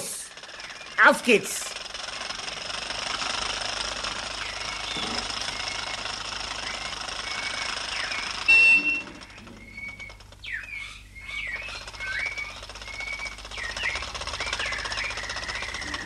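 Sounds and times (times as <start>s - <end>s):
birds chirping: 0.0s - 16.0s
jeep motor running: 0.0s - 16.0s.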